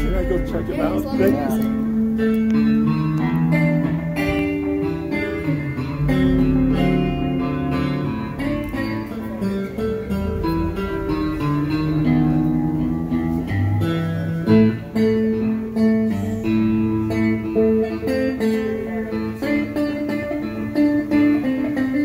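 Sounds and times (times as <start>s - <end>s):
low bass guitar notes: 0.0s - 22.0s
plucked guitar notes: 0.0s - 22.0s.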